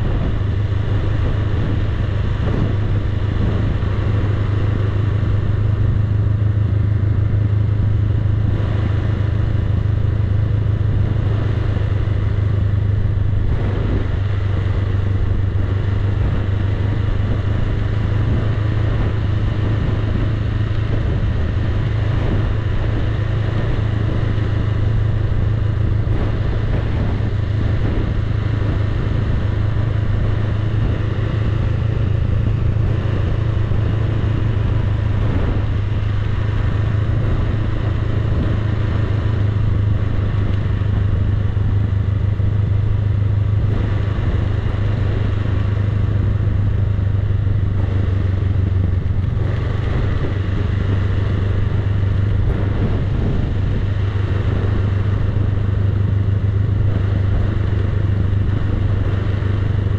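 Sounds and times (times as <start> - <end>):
motorcycle engine humming: 0.0 - 59.9.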